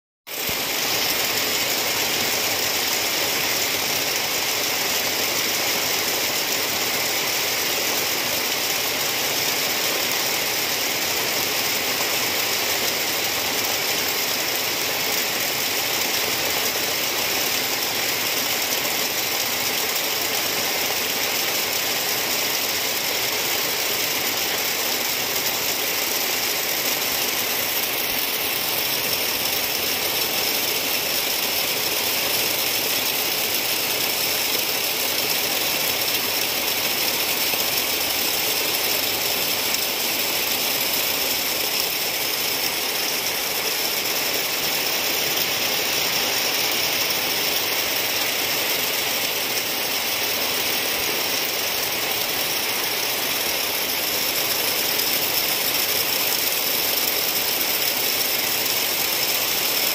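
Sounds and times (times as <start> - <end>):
heavy rain on leafy trees: 0.3 - 59.9.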